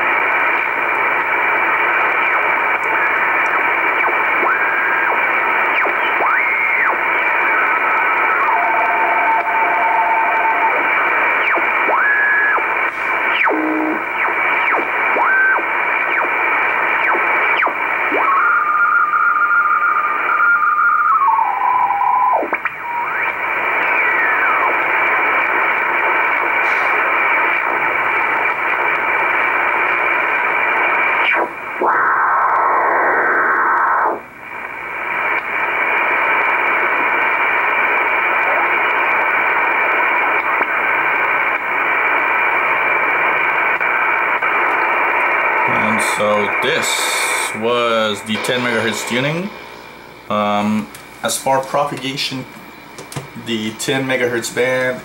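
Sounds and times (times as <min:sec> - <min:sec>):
radio band hiss: 0:00.0 - 0:55.0
steady radio tone: 0:00.0 - 0:55.0.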